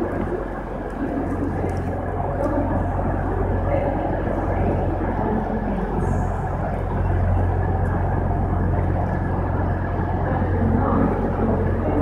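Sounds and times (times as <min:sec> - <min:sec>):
station noise rumble: 0:00.0 - 0:12.0
train humming at platform: 0:00.0 - 0:12.0.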